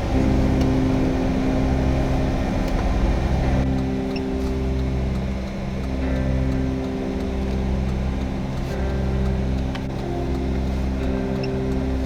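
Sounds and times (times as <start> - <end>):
car engine hum: 0.0 - 12.0
road noise rumble: 0.0 - 12.0.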